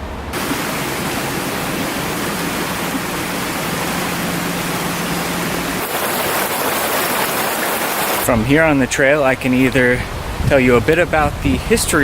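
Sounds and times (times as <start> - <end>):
brook water rushing: 0.0 - 12.0.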